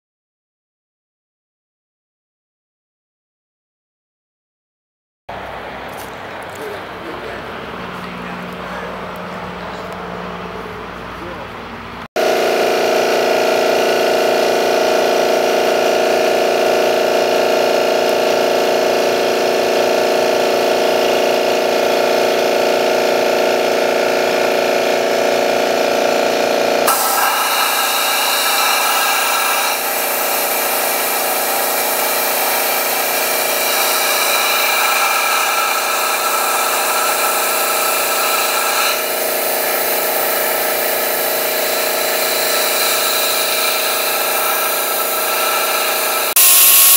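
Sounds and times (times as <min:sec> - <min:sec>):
jet engine whine: 0:05.3 - 0:46.9.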